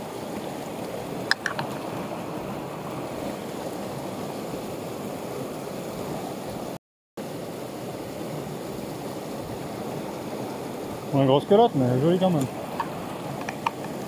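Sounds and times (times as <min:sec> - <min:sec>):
water rushing over boulders: 0:00.0 - 0:14.0.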